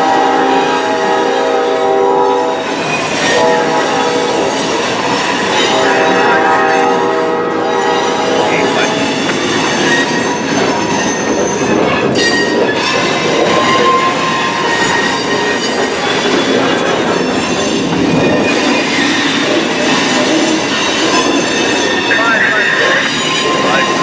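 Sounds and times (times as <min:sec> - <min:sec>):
train rumble: 0:00.0 - 0:24.0
train wheels squealing: 0:00.0 - 0:24.0.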